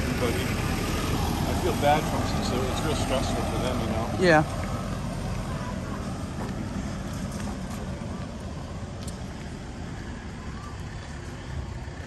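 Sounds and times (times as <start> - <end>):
street noise: 0.0 - 12.0
truck engine rumbling: 0.0 - 12.0.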